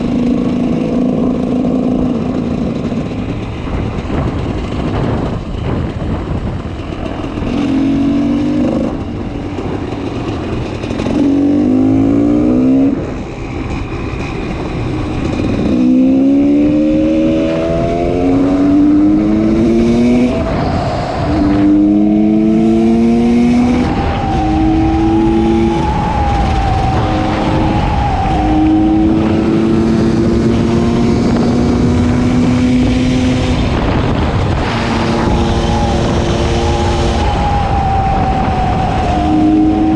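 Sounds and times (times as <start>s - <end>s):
dirt bike accelerating through gears: 0.0s - 39.9s.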